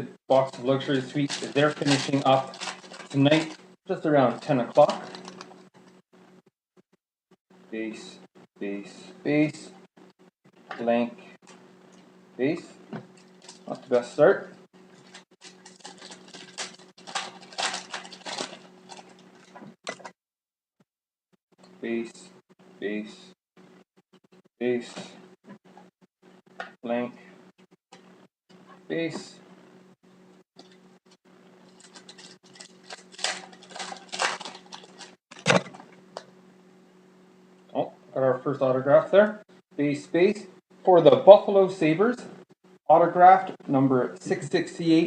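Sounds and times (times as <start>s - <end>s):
faint electrical hum: 0.0s - 6.5s, 7.5s - 20.1s, 21.6s - 45.0s.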